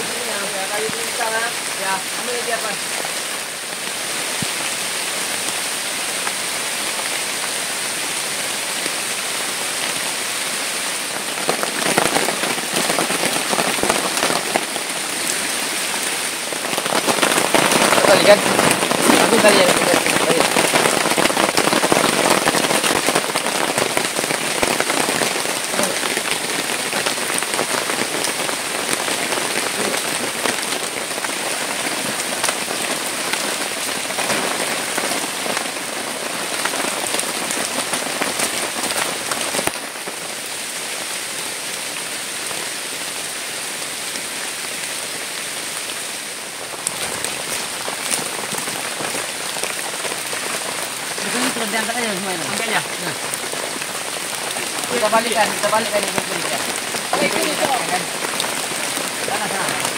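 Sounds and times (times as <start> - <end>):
heavy rain on plastic tarpaulin: 0.0 - 59.9.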